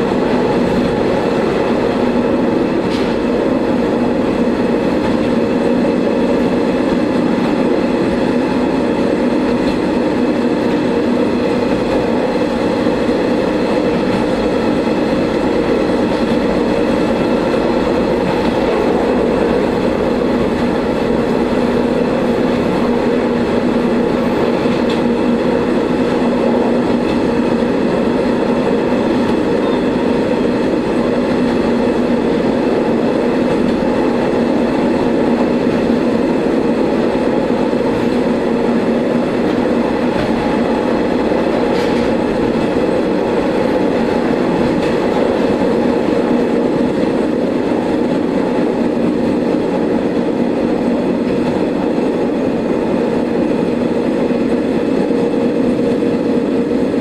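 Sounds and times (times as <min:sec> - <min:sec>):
railcar engine drone: 0:00.0 - 0:57.0
wheels rolling on rail: 0:00.0 - 0:57.0.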